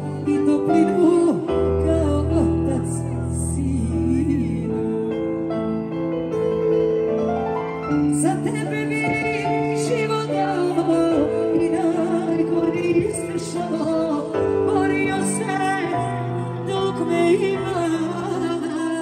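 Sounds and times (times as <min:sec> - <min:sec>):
folk-pop band over loudspeakers: 0:00.0 - 0:19.0.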